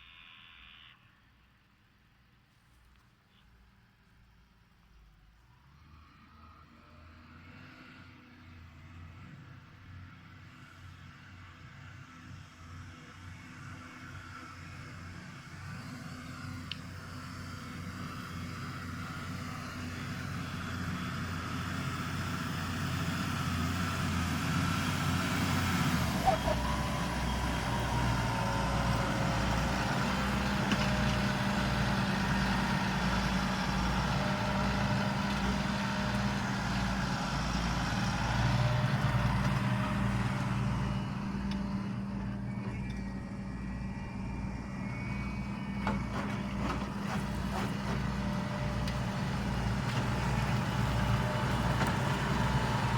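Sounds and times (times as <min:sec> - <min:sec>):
tractor diesel engine under load: 0:06.6 - 0:52.9.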